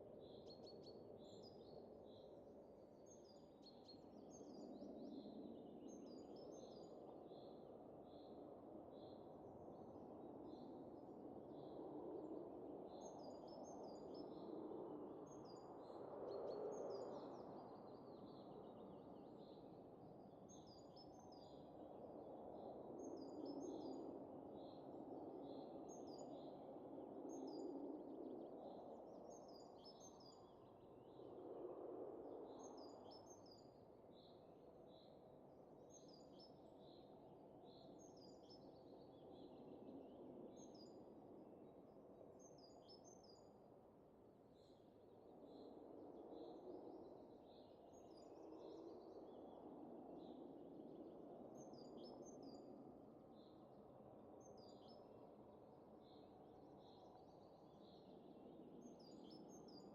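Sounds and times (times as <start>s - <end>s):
faint wind gusts: 3.4s - 59.9s.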